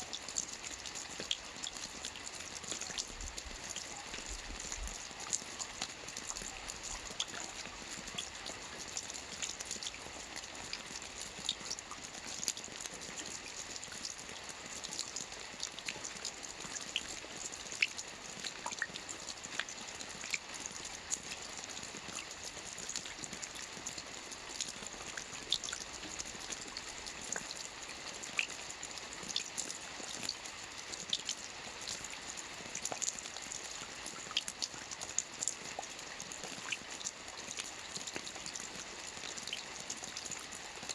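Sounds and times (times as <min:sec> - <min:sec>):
rain falling on water: 0:00.0 - 0:40.9.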